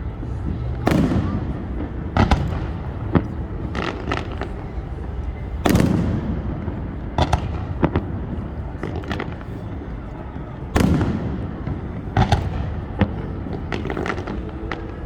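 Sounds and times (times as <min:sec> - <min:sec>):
fireworks bangs and crackling: 0:00.0 - 0:15.0
fireworks boom: 0:00.5 - 0:09.6, 0:10.6 - 0:15.0.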